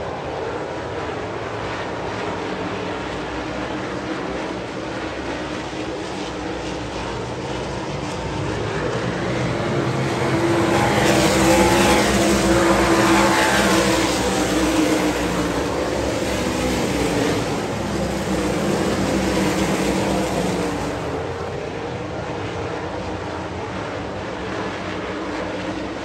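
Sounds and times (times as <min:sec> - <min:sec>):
race car engines passing: 0:00.0 - 0:26.0.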